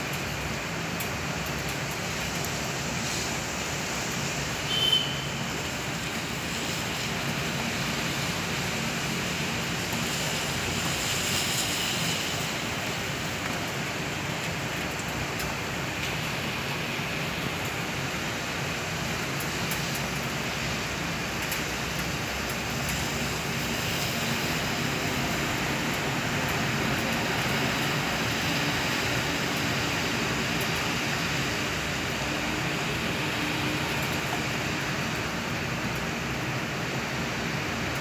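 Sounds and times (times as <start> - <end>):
heavy rain on wet pavement: 0.0 - 38.0.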